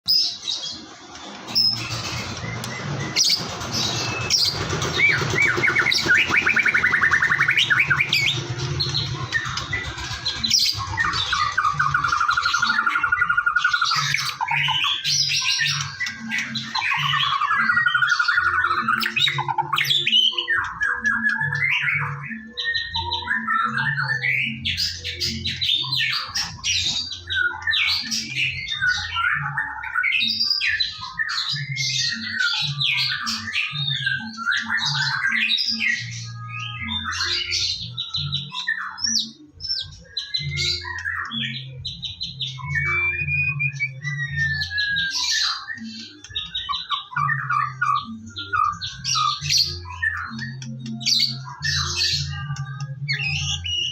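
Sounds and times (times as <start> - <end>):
bird singing whistles and trills: 0.1 - 53.9.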